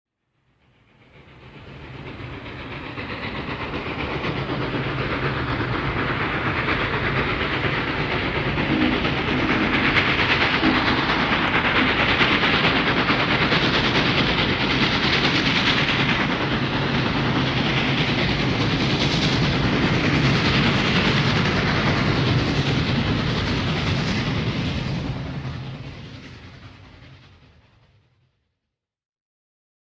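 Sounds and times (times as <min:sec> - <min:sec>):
steam train passing: 0:00.3 - 0:28.3.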